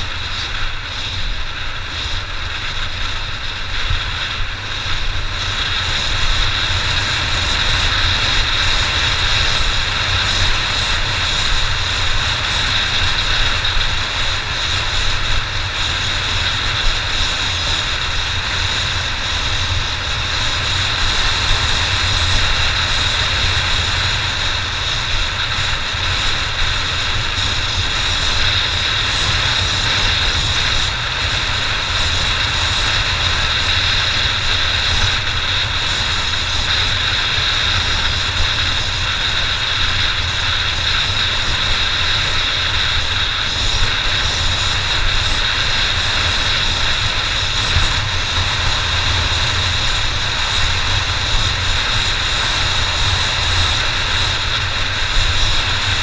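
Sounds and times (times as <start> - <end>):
steady high whine: 0.0 - 56.0
wind rush: 0.0 - 56.0.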